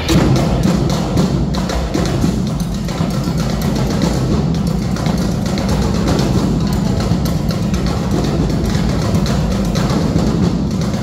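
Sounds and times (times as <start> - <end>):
drum-heavy dance music: 0.0 - 11.0.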